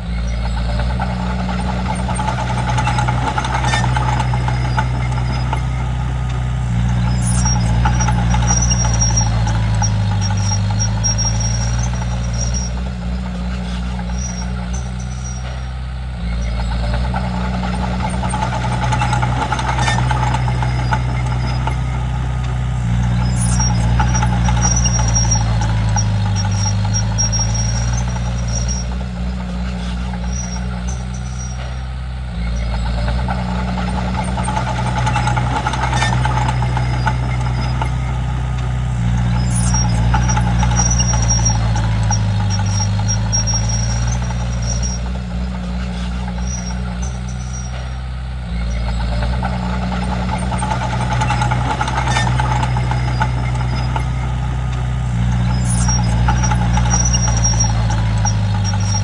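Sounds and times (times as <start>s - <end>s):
bulldozer diesel engine under load: 0.0s - 59.0s
high-pitched squeaks: 0.0s - 59.0s.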